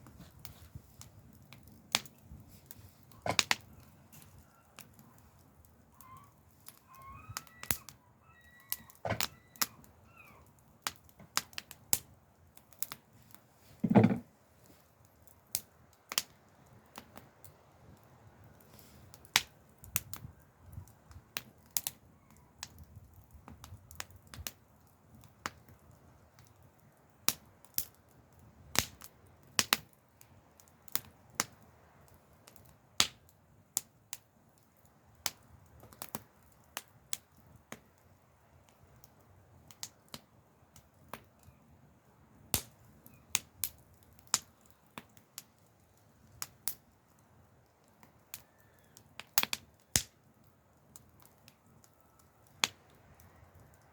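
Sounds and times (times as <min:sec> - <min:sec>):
faint low hiss: 0:00.0 - 0:53.9
wood fire crackling: 0:00.0 - 0:53.9.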